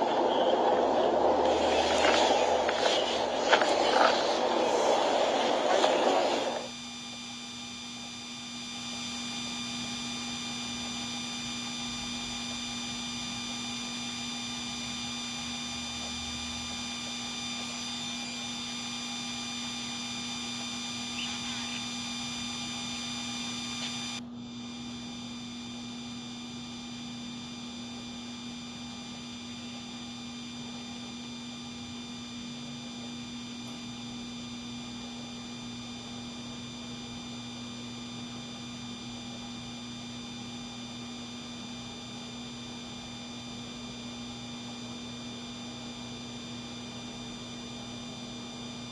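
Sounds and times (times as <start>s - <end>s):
steady electronic hum: 0.0s - 48.9s.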